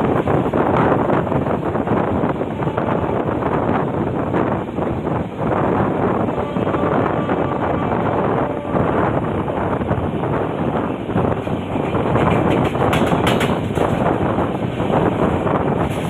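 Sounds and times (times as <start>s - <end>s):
passenger train rumbling: 0.0s - 16.0s.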